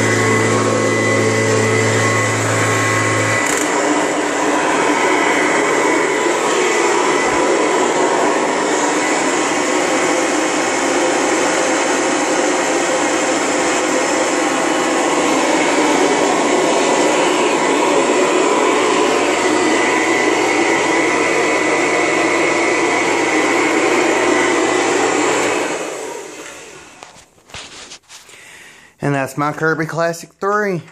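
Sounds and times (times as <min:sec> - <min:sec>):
upright vacuum cleaner running: 0:00.0 - 0:28.3.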